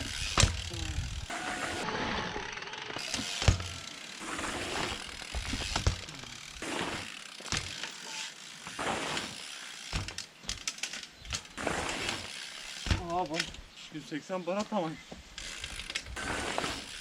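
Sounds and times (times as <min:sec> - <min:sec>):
bicycle freewheel ratcheting: 0:00.0 - 0:13.5, 0:15.3 - 0:17.0.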